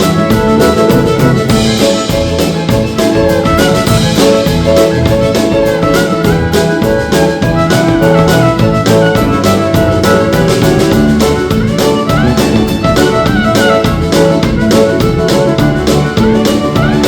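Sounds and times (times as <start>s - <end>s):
roots band playing upbeat tune: 0.0s - 17.0s.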